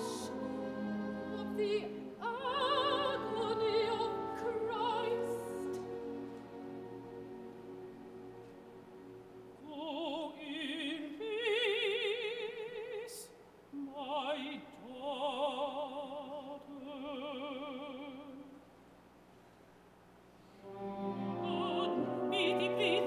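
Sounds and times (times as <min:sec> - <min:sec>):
woman singing opera: 0:00.0 - 0:07.1, 0:09.6 - 0:18.6, 0:20.6 - 0:23.0.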